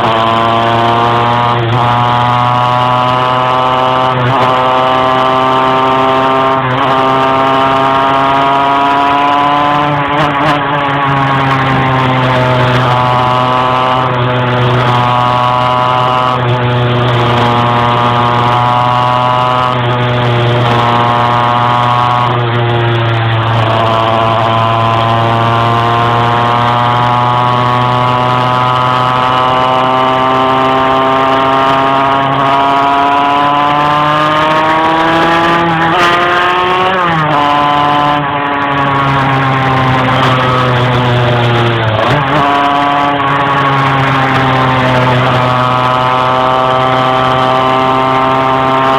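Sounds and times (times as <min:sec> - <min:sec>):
two-stroke moped engine labouring: 0:00.0 - 0:48.9.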